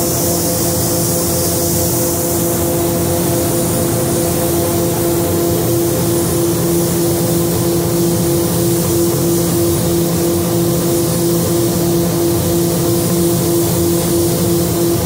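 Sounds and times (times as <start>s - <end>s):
air spray gun hissing: 0.0s - 15.0s
ventilation hum: 0.0s - 15.0s.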